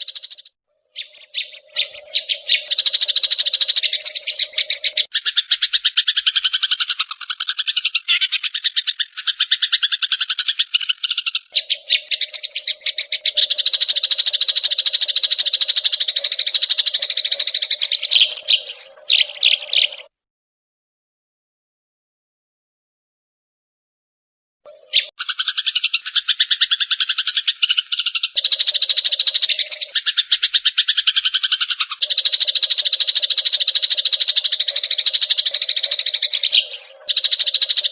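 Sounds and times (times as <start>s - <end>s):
songbird rattling chatter: 0.0s - 20.0s, 25.1s - 37.9s
rapid pulsing animal trill: 0.0s - 20.1s, 24.7s - 37.9s.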